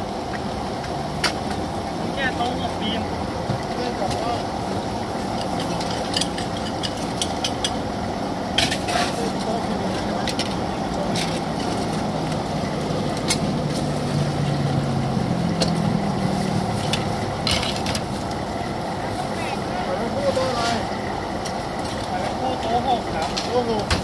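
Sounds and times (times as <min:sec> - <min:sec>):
gas burners roaring: 0:00.0 - 0:24.0.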